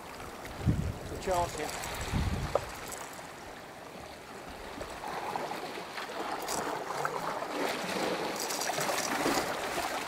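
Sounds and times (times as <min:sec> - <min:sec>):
surf washing over rocks: 0:00.0 - 0:10.0.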